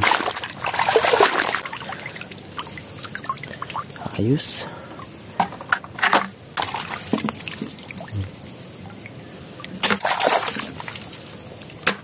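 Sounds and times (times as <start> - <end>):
shallow water sloshing and splashing: 0.0 - 4.1, 5.0 - 11.9.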